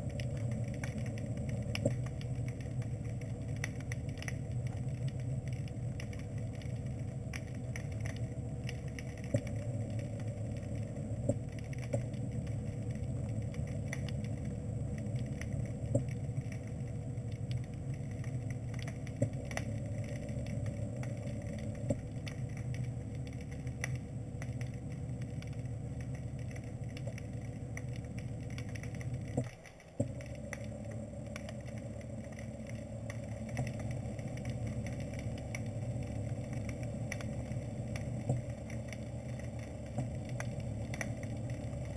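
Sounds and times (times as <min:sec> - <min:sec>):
underwater thruster motors humming: 0:00.0 - 0:41.9.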